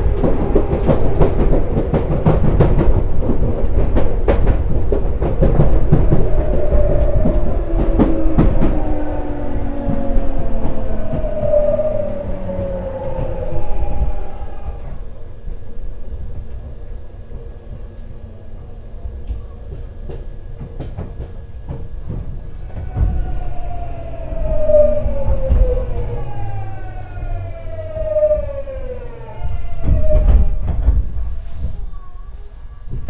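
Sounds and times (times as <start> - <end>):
train inverter whining: 0.0 - 32.1
train running rumble: 0.0 - 33.0.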